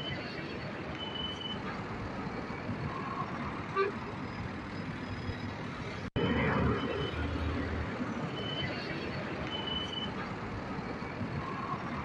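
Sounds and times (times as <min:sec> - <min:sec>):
road vehicles: 0:00.0 - 0:12.0.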